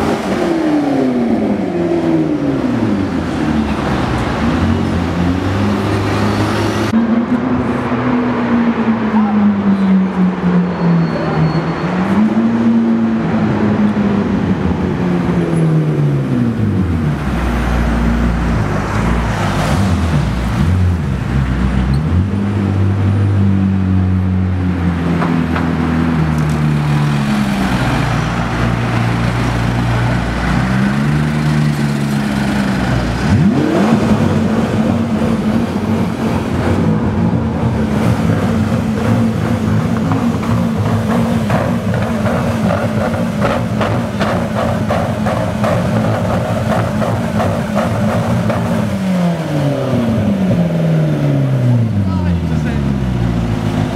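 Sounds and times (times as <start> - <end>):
car engine revving: 0.0 - 10.4, 11.6 - 53.9.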